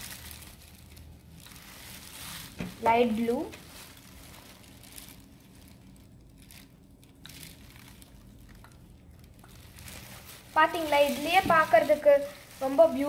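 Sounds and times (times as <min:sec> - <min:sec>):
light crinkling: 0:00.0 - 0:13.0
low steady hum: 0:00.0 - 0:13.0
plastic squeeze bottle squeezing: 0:01.4 - 0:13.0.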